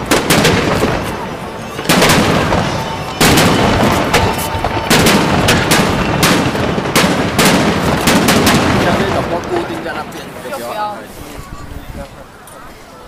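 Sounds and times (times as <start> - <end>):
firework shells bursting: 0.0 - 10.5.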